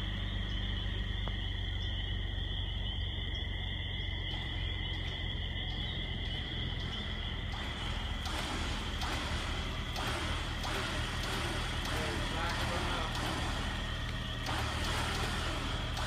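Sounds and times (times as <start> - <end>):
frogs trilling: 0.0 - 16.0
low steady rumble: 0.0 - 16.0.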